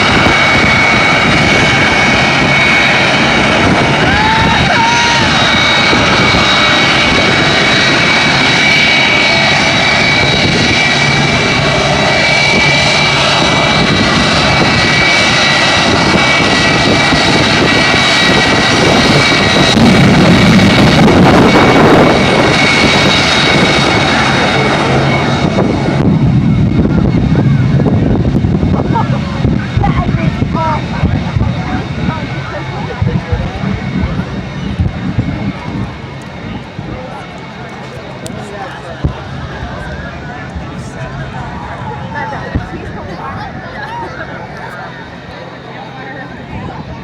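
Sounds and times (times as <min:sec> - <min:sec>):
jet engine whining: 0:00.0 - 0:47.0.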